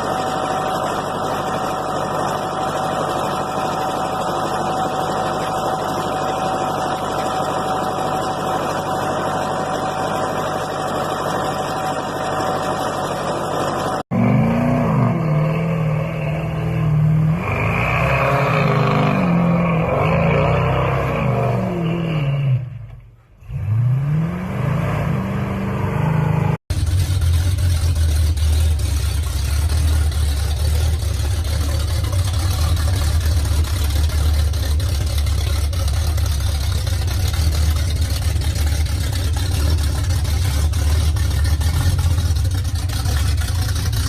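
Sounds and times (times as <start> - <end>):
engine revving: 0.0 - 44.0
vehicle noisy hum: 0.0 - 44.0.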